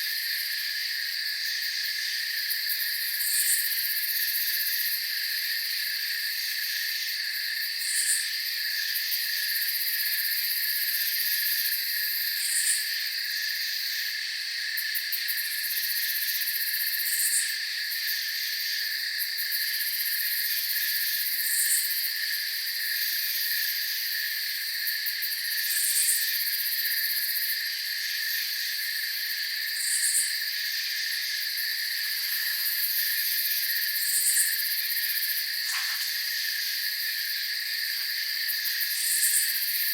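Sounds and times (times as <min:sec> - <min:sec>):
crickets and insects chirring: 0:00.0 - 0:39.9.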